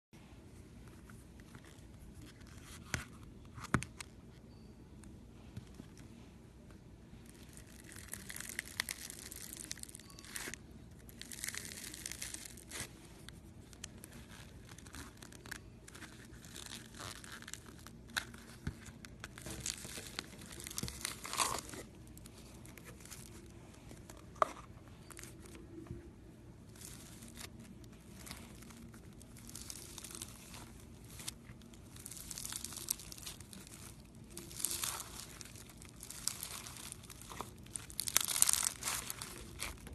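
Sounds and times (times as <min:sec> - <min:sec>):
crunchy slime being squished: 0:07.2 - 0:25.8, 0:26.6 - 0:39.9.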